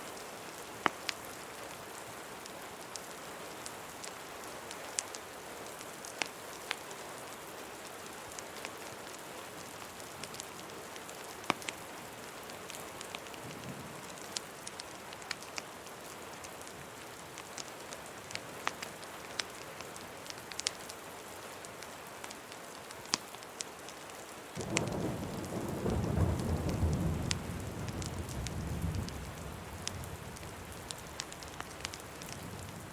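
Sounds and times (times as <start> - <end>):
rain hiss: 0.0 - 32.9
wood fire crackling: 0.4 - 7.0, 7.7 - 32.9.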